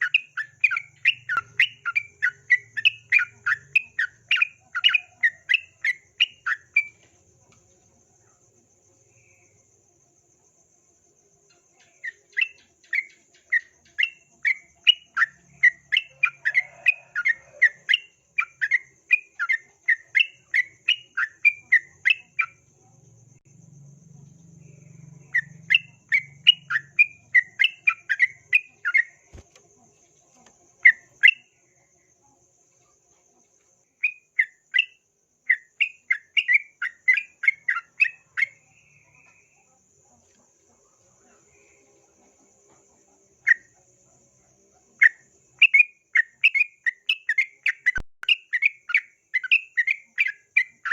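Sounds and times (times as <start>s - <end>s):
faint insect trill: 0.0s - 50.9s.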